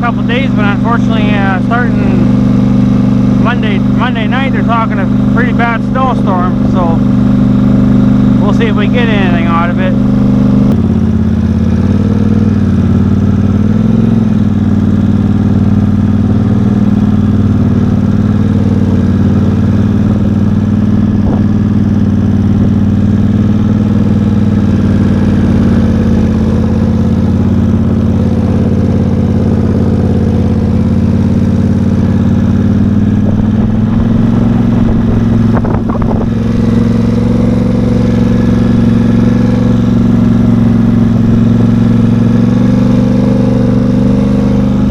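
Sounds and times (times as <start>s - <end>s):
off-road vehicle engine running: 0.0s - 44.9s.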